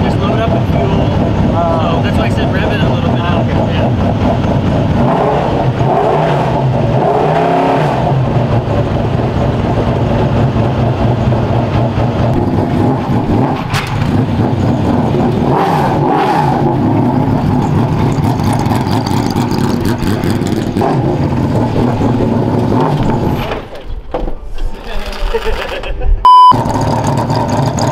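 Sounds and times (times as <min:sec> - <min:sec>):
race car engine idling and revving: 0:00.0 - 0:23.7, 0:26.3 - 0:27.9.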